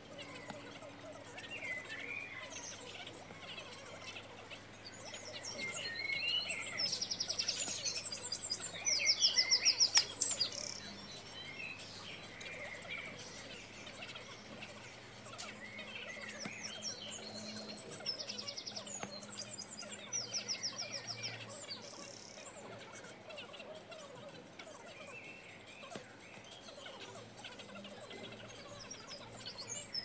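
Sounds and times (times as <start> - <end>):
bird rapid trills: 0.0 - 30.0
birds chirping and singing: 0.0 - 30.0.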